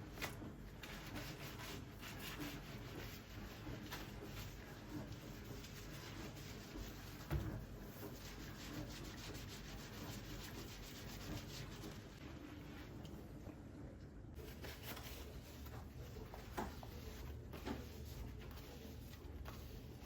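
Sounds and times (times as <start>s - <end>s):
scrubbing strokes on a surface: 0.7s - 13.2s, 14.4s - 20.0s.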